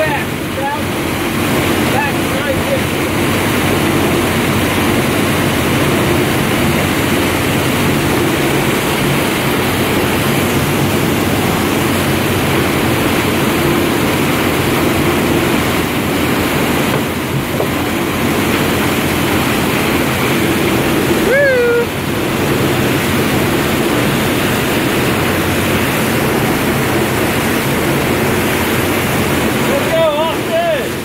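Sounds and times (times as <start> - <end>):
boat engine humming: 0.0 - 31.0
churning water of boat wake: 0.0 - 31.0.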